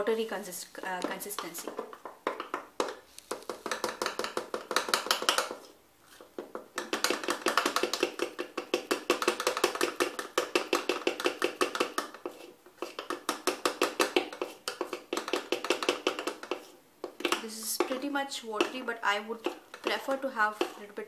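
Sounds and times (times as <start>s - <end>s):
spoon beating batter in jug: 0.9s - 21.0s.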